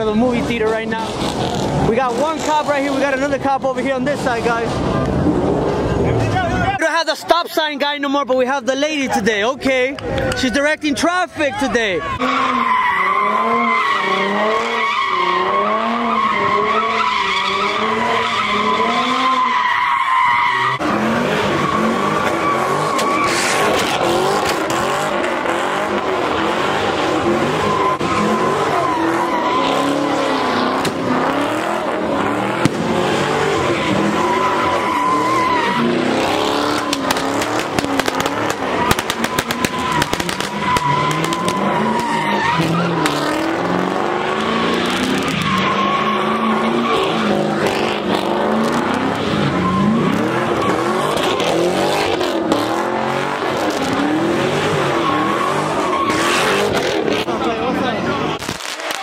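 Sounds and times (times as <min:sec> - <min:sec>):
car engines revving: 0:00.0 - 0:59.0
tyres squealing: 0:11.0 - 0:59.0.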